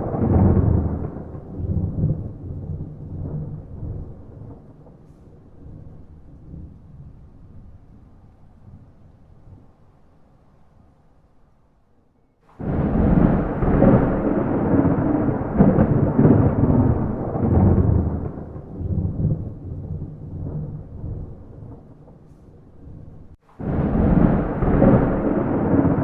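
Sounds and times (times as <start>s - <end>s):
thunder rumbling: 0.0s - 10.0s, 12.5s - 26.0s.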